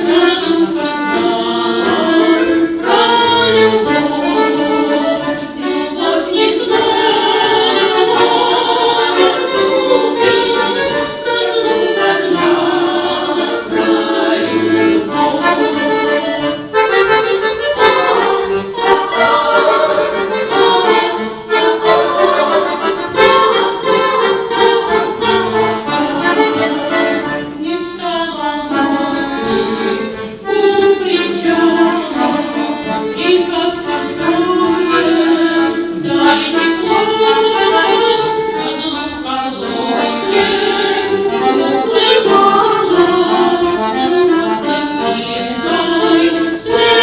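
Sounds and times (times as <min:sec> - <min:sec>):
accordion folk tune: 0:00.0 - 0:47.0.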